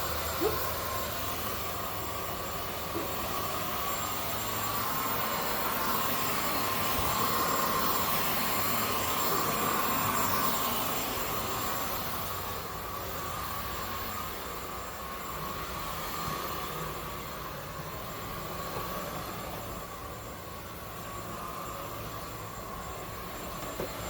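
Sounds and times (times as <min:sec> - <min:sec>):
stick vacuum motor whine: 0:00.0 - 0:24.0.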